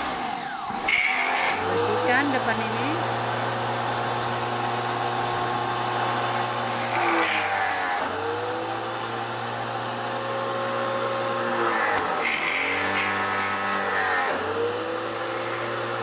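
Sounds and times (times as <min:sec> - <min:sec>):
pressure washer motor hum: 0:00.0 - 0:16.0.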